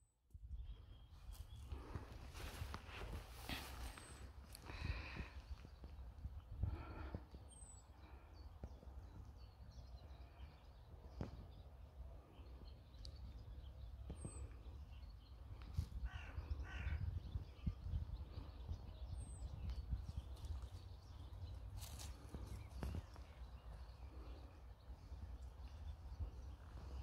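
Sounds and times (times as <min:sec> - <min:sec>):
wind rumbling on microphone: 0:00.3 - 0:07.8, 0:12.7 - 0:27.0.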